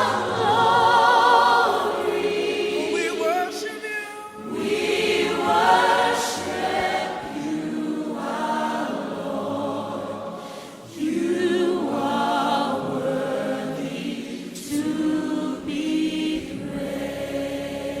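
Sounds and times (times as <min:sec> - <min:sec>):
group singing worship song: 0:00.0 - 0:18.0.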